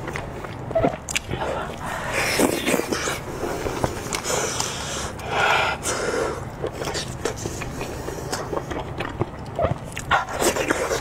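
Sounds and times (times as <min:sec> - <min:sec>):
wet chewing and lip-smacking: 0:00.0 - 0:05.8, 0:06.4 - 0:11.0.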